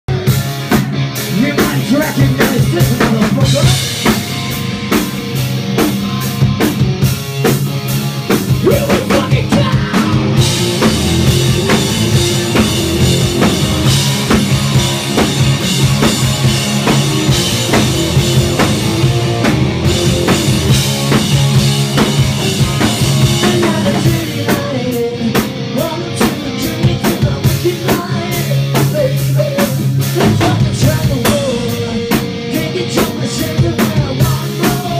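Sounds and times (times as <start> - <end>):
rock band playing live: 0.1 - 34.9.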